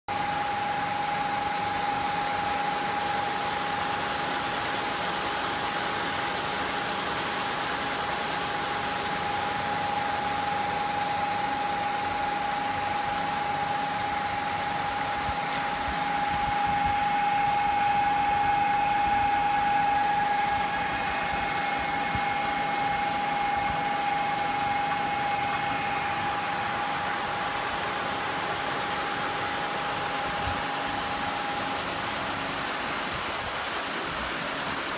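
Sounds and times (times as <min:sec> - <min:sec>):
electric motor whine: 0:00.1 - 0:06.9, 0:07.5 - 0:34.8.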